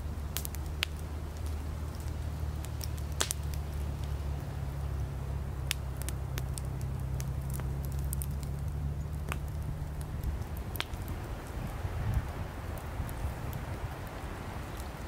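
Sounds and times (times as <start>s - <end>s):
firewood crackling: 0.0s - 15.0s
low fire rumble: 0.0s - 15.0s.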